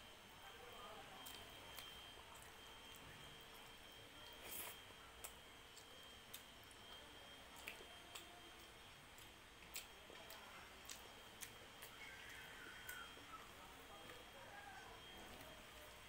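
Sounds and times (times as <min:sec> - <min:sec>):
faint chewing: 0:00.8 - 0:16.0
soft clicks of eating by hand: 0:01.1 - 0:16.0.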